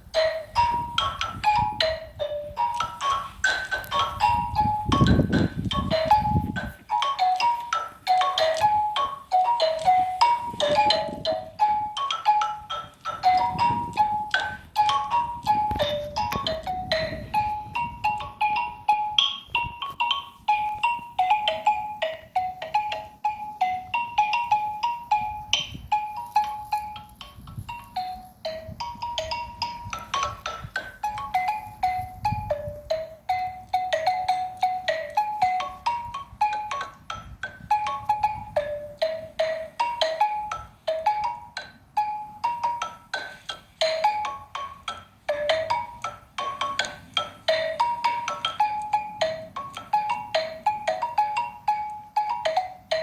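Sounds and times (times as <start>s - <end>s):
xylophone notes: 0.0s - 53.0s.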